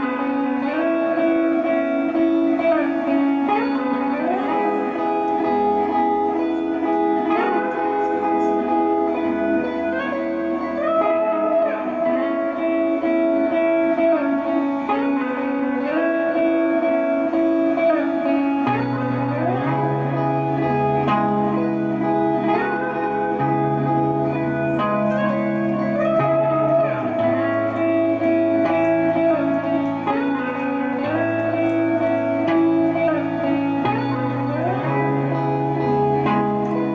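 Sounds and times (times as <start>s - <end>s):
plucked string lead: 0.0s - 36.9s.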